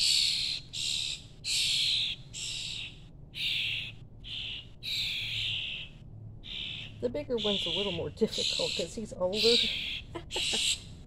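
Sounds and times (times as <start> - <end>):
baby birds begging calls: 0.0 - 11.0.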